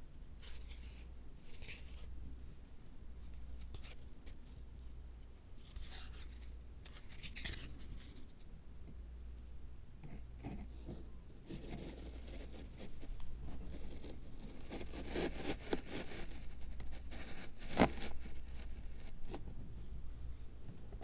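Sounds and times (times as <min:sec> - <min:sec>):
small scraping and rustling: 0:00.4 - 0:08.5, 0:10.0 - 0:19.8.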